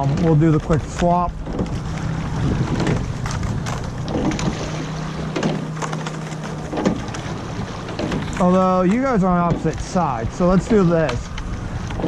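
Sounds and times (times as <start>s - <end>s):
wind on microphone: 0.0s - 5.1s, 6.8s - 12.0s
water around boat: 0.0s - 12.0s.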